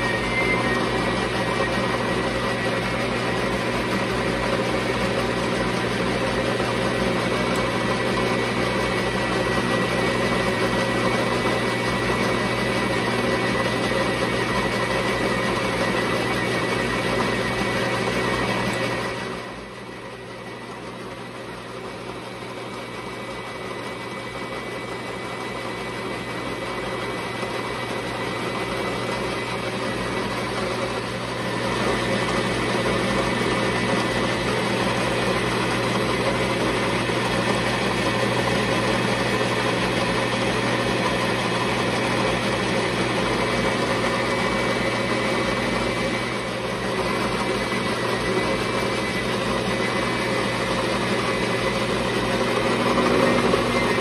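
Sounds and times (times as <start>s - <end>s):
lathe tool cutting metal: 0.0s - 19.7s, 27.6s - 54.0s
lathe motor humming: 0.0s - 54.0s.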